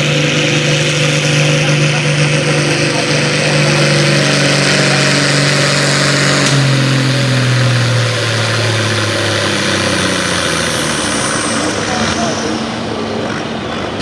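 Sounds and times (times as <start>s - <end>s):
engine winding down: 0.0s - 14.0s.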